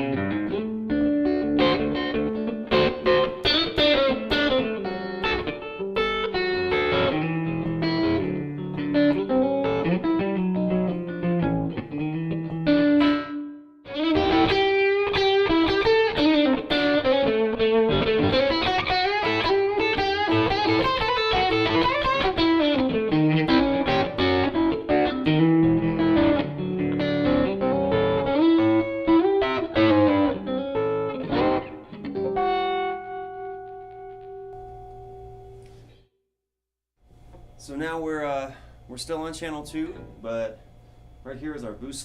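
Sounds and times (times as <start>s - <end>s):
electric guitar blues lead: 0.0s - 35.6s
guitar chord ringing out: 0.0s - 35.6s.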